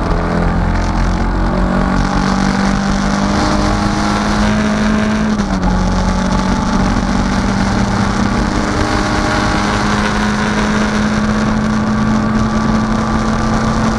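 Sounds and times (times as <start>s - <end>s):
race car engine running hard: 0.0s - 13.9s
wind and road noise: 0.0s - 13.9s.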